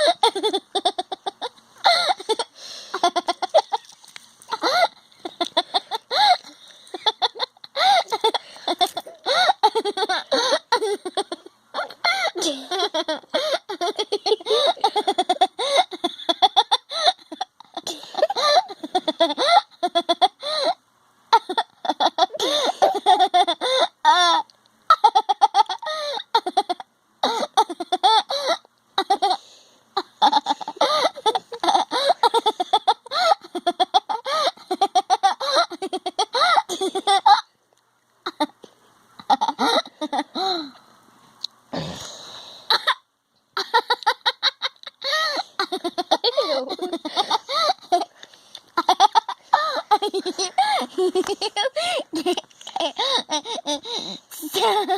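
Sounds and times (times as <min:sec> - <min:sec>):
person laughing hard: 0:00.0 - 0:29.4, 0:30.0 - 0:37.4, 0:39.2 - 0:40.7, 0:43.6 - 0:54.9.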